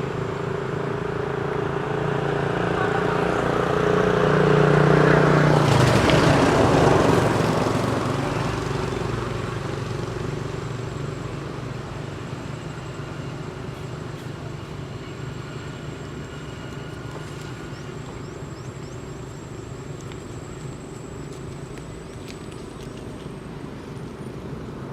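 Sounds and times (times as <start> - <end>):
motor vehicle passing: 0.0 - 24.9.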